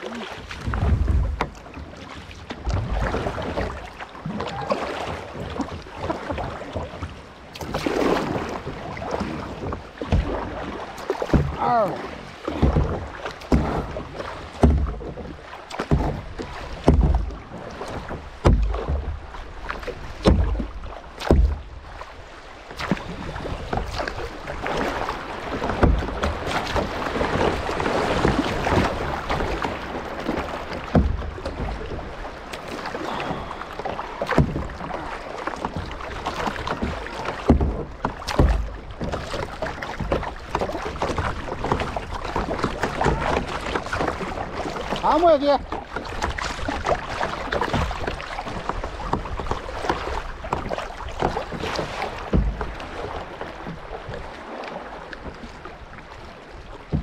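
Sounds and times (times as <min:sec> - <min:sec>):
paddle strokes: 0:00.0 - 0:57.0
water rushing and splashing: 0:00.0 - 0:57.0
paddle knocking on hull: 0:00.2 - 0:57.0.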